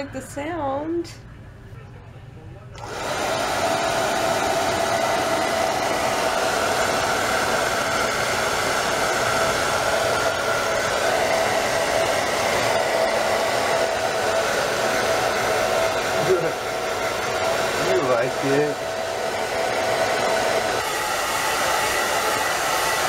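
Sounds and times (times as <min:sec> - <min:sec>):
hair dryer blowing with whine: 0:02.8 - 0:23.0.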